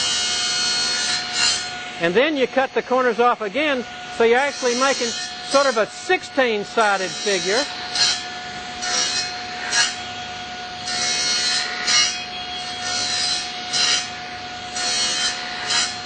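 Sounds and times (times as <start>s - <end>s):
saw blade cutting wood: 0.0s - 2.2s, 4.2s - 10.2s, 10.8s - 16.0s
table saw whine: 0.0s - 16.0s.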